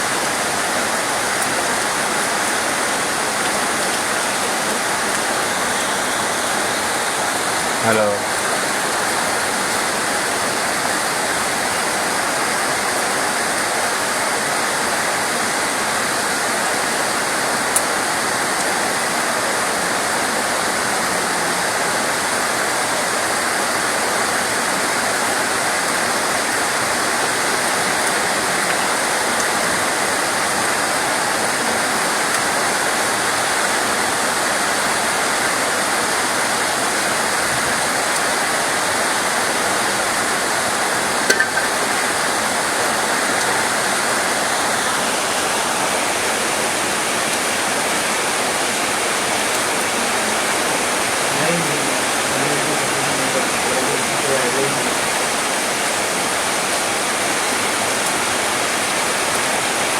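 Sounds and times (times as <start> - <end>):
dense rain hiss: 0.0 - 59.9.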